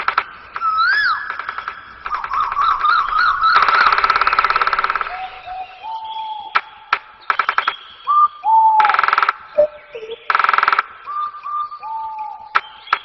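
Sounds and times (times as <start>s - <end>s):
songbird singing: 0.3s - 13.0s.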